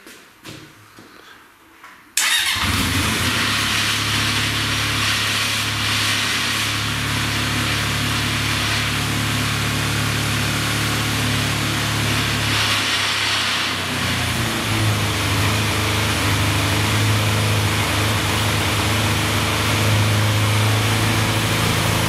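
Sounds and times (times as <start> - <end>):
motorcycle engine starting and running: 2.2 - 22.0.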